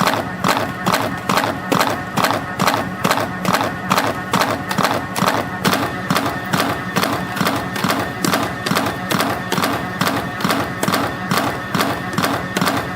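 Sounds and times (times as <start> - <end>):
spring coiling machine clacking: 0.0 - 12.9.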